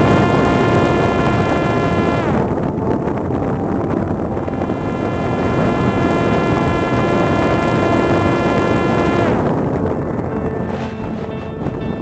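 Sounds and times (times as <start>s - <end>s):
propeller motor whining: 0.0s - 12.0s
wind rush: 0.0s - 12.0s.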